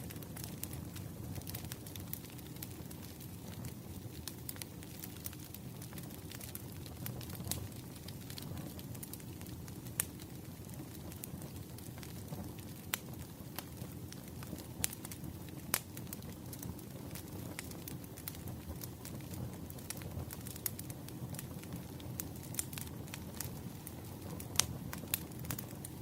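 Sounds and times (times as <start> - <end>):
firewood crackling: 0.0 - 26.0
low rush of flames: 0.0 - 26.0
sharp pops of burning wood: 4.1 - 26.0.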